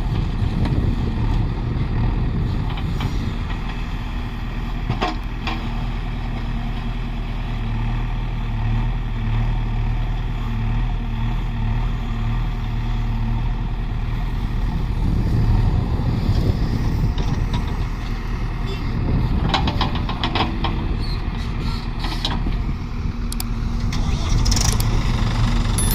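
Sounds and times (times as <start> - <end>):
heavy diesel engine running: 0.0 - 25.9.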